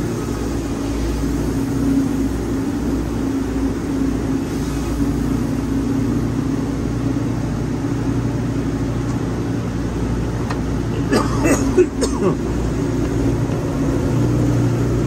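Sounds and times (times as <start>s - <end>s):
sawmill engine drone: 0.0s - 15.0s.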